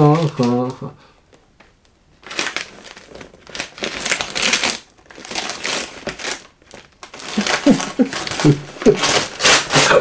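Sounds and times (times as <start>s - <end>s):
wrapping paper rustling and crinkling: 0.0s - 1.0s, 2.1s - 10.0s.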